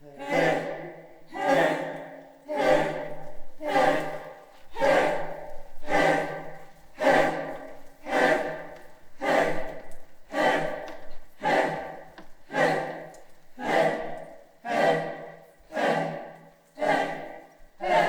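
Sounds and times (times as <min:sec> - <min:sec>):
chorus of voices chanting: 0:00.0 - 0:18.0.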